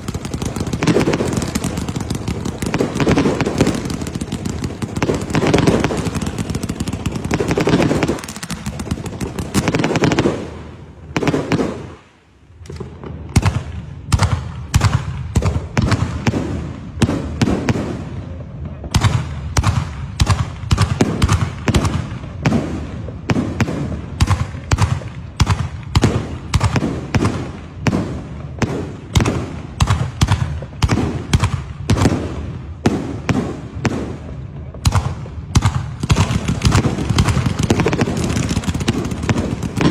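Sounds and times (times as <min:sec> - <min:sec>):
rapid sharp firework cracks: 0:00.0 - 0:18.2, 0:18.8 - 0:39.9
fireworks bangs and crackle: 0:00.0 - 0:39.9.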